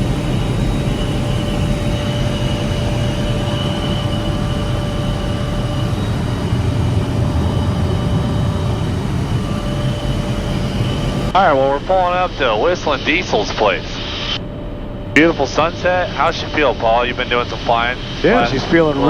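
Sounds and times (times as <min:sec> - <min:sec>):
helicopter rotor and engine rumble: 0:00.0 - 0:19.0
steady whining tones: 0:00.0 - 0:19.0.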